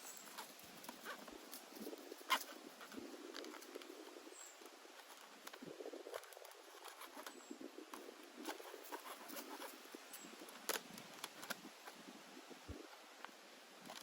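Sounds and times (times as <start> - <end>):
light rustling: 0.0 - 12.1.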